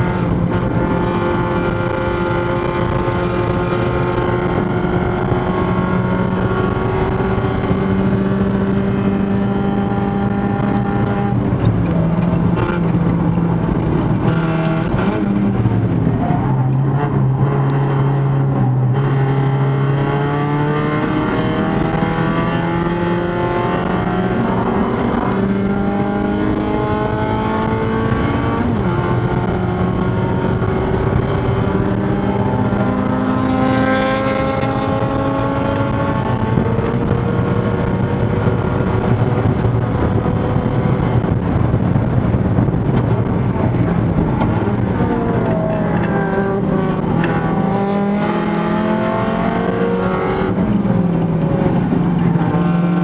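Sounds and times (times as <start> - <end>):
race car engine under load: 0.0 - 53.0.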